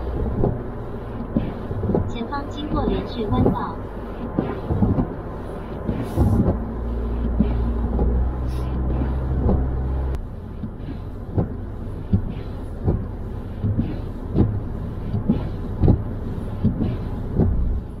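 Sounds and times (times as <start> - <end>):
car cabin rumble: 0.0 - 18.0
road noise: 0.0 - 18.0
windscreen wiper thumps: 0.0 - 18.0.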